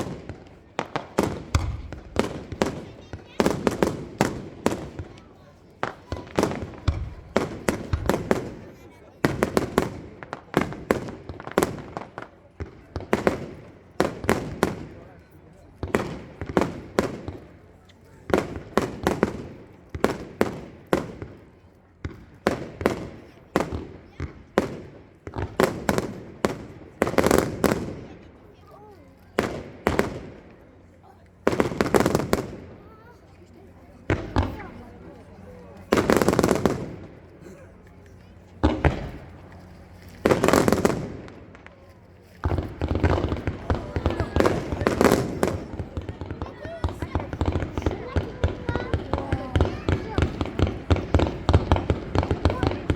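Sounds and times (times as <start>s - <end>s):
fireworks bursting with echo: 0.0s - 33.2s, 34.0s - 52.9s.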